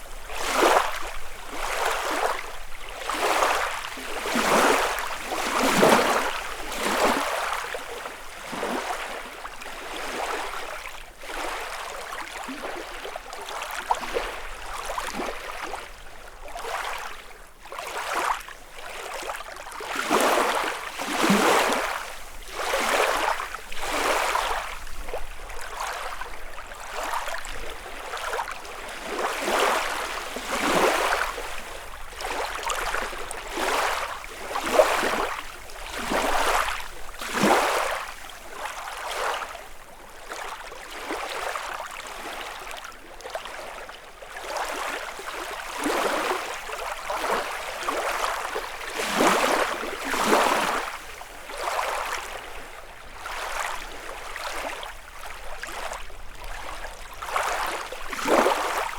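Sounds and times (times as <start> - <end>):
lake waves lapping on shore: 0.0 - 58.9.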